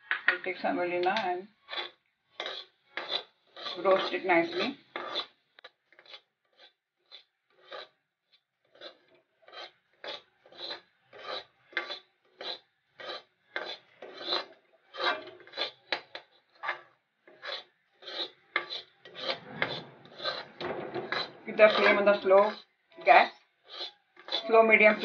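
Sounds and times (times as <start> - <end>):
metal spatula scraping pan: 0.0 - 25.0.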